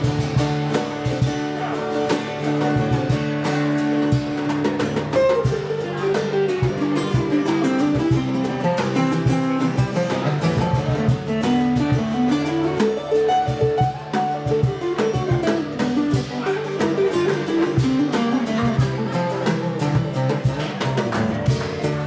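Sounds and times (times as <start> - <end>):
guitar melodic runs: 0.0 - 22.0
live instrumental band music: 0.0 - 22.0
steady drum beat: 0.0 - 22.0.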